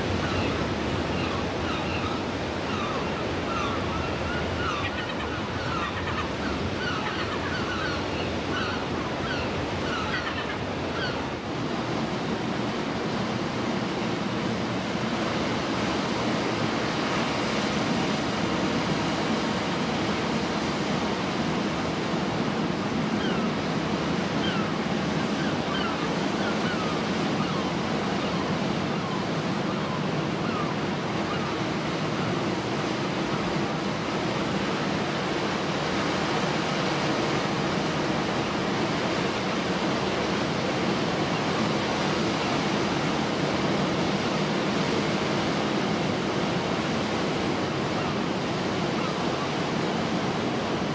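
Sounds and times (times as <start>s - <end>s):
seabirds calling: 0.0s - 14.1s, 15.3s - 50.9s
surf on a rocky shore: 0.0s - 50.9s.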